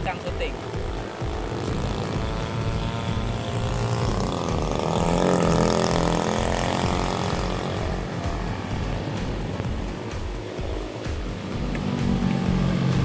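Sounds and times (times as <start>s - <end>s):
buzzing two-stroke boat engine: 0.0s - 13.0s.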